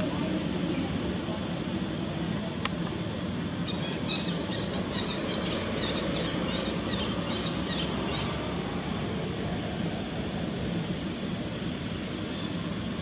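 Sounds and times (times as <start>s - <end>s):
steady forest hiss: 0.0s - 13.0s.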